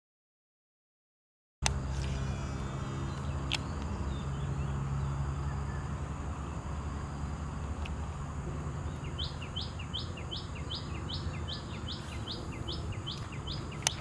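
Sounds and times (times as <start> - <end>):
low outdoor background drone: 1.6 - 14.0.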